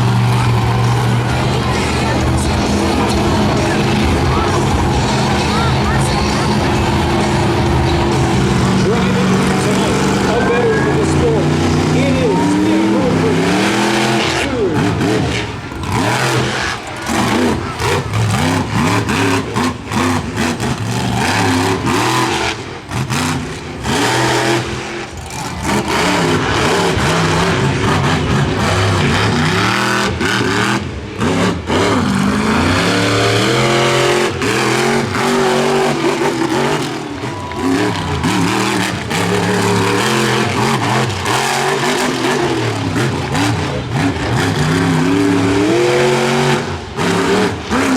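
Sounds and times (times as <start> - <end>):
monster truck engine revving: 0.0 - 47.9.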